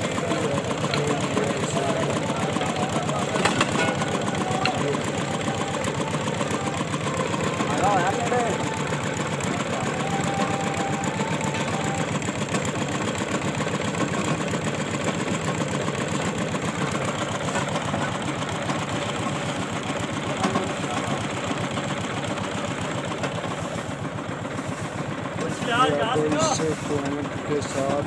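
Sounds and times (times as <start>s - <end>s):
boring machine engine pulsing: 0.0s - 28.0s.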